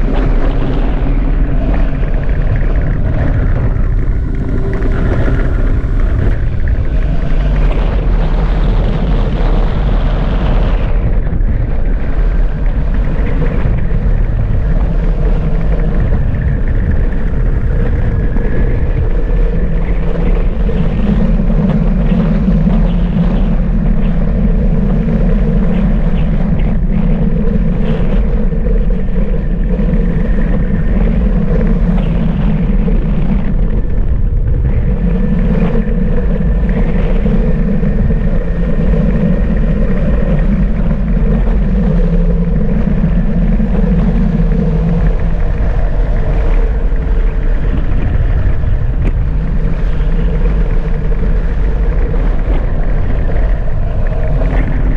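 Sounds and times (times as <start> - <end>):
wind and road rumble: 0.0 - 54.9.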